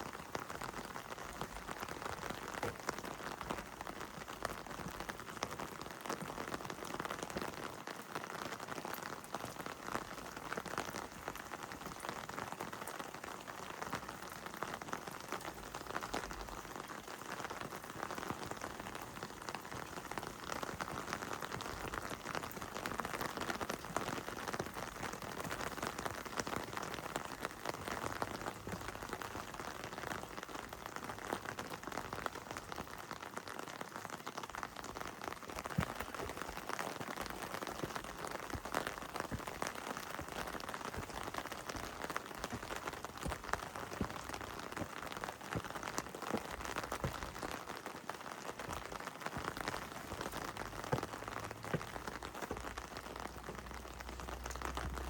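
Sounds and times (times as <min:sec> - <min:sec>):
heavy rain falling: 0:00.0 - 0:55.0
rain drops ticking close by: 0:00.0 - 0:55.0.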